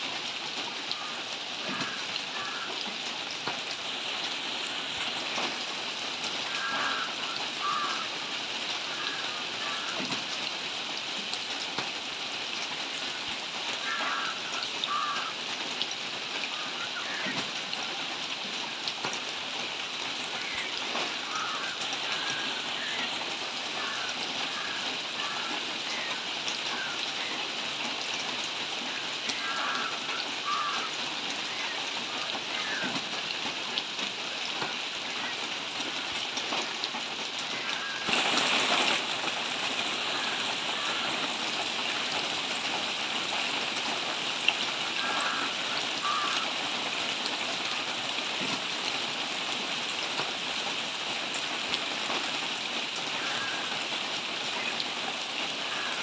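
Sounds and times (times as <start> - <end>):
rain on foliage: 0.0 - 56.0.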